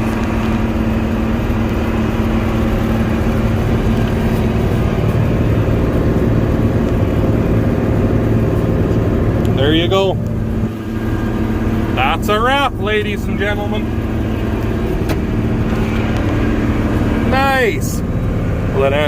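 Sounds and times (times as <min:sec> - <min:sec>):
combine harvester droning: 0:00.0 - 0:19.0.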